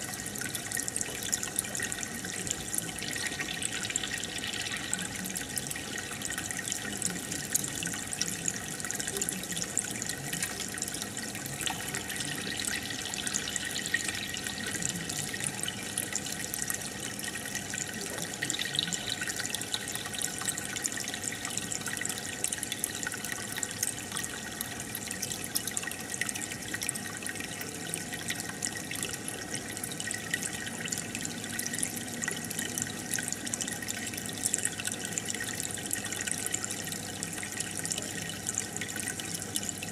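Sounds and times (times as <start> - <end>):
aquarium aerator bubbling: 0.0 - 39.9.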